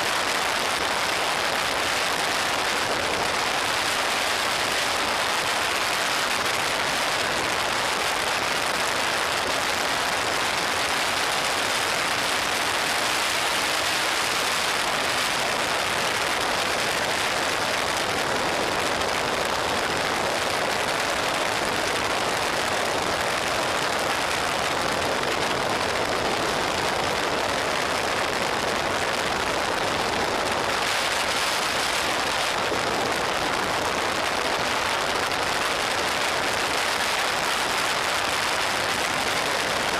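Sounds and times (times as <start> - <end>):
wind rushing over microphone: 0.3 - 39.9.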